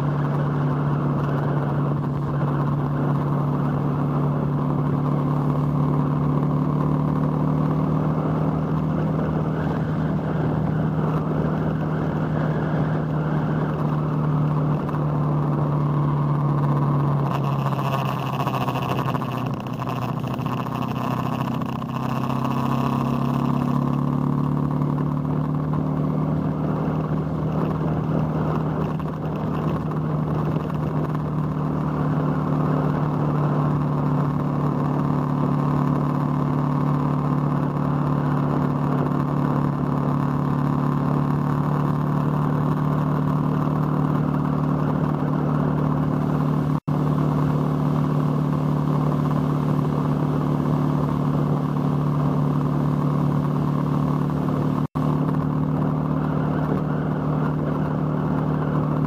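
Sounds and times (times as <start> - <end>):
motorcycle engine cruising: 0.0 - 59.0
road noise: 0.0 - 59.0
wind noise: 8.2 - 59.0.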